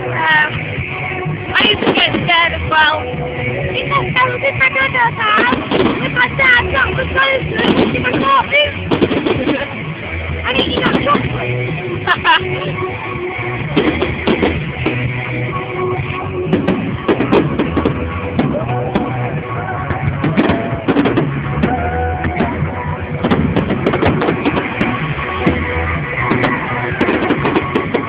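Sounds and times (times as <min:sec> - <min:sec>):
rock music with drums and guitar: 0:05.3 - 0:28.0.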